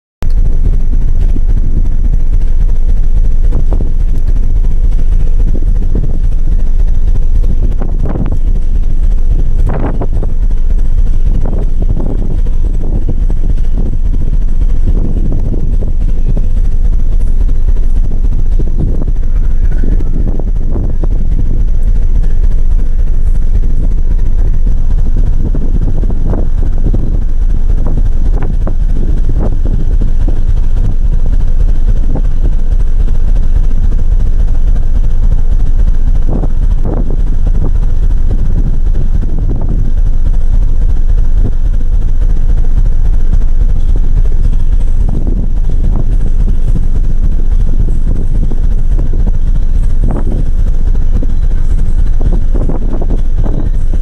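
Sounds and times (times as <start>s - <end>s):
wind buffeting microphone: 0.2s - 54.0s.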